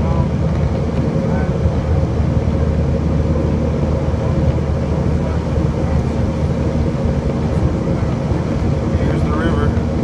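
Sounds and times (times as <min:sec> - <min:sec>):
jet engines droning: 0:00.0 - 0:10.0
low hum with steady tones: 0:00.0 - 0:10.0.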